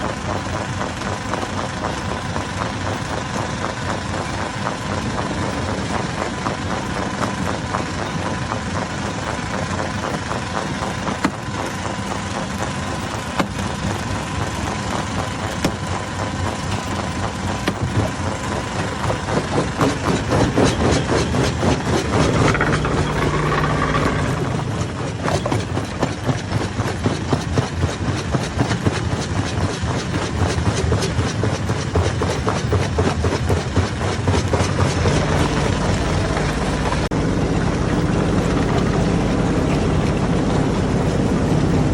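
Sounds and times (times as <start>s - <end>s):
crusher engine droning: 0.0s - 41.9s.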